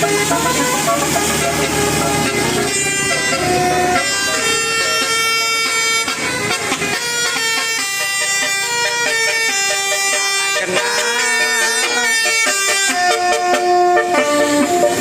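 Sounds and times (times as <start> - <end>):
musical air horn playing tune: 0.0 - 15.0.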